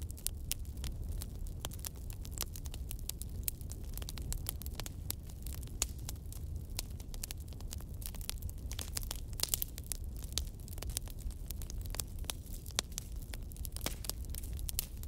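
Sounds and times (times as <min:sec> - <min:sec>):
fire crackling with pops: 0:00.0 - 0:15.0
low rumble of burning: 0:00.0 - 0:15.0.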